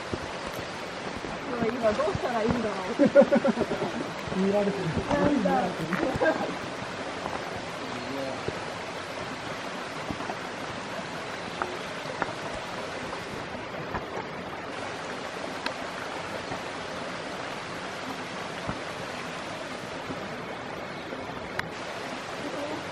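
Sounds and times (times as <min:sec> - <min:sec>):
steady rushing background noise: 0:00.0 - 0:22.9.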